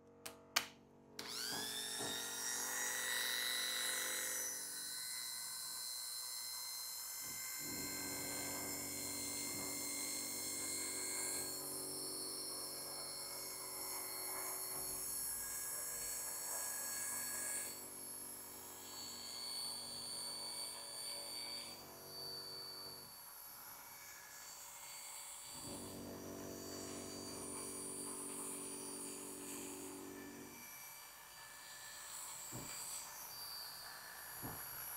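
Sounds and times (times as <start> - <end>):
electric hair clippers buzzing: 1.2 - 6.1, 6.9 - 23.3, 25.5 - 34.9.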